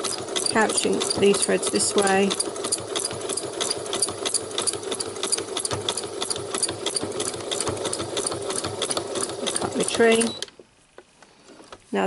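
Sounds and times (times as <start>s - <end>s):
sewing machine needle ticking: 0.0s - 10.5s.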